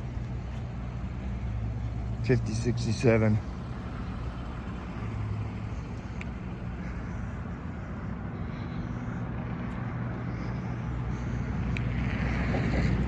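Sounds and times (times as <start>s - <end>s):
car engine humming: 0.0s - 13.0s
road and wind noise: 0.0s - 13.0s.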